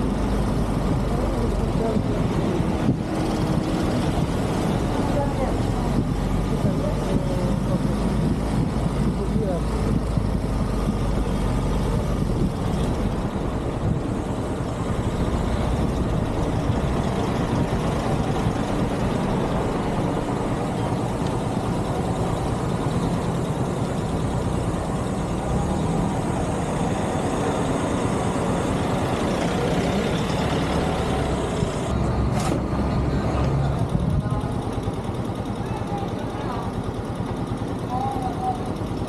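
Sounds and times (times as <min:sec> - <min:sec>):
motorcycle engine running: 0:00.0 - 0:39.0
road and wind noise: 0:00.0 - 0:39.0.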